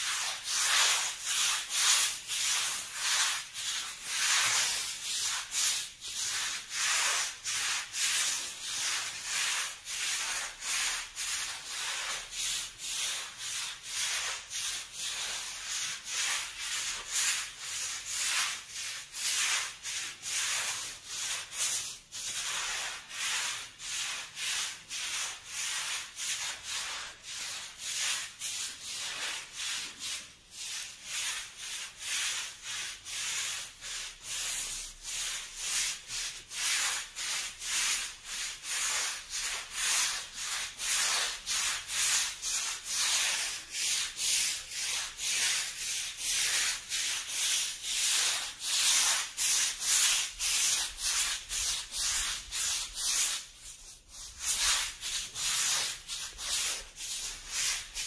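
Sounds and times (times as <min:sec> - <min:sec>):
push broom scrubbing wet concrete: 0:00.0 - 0:58.0.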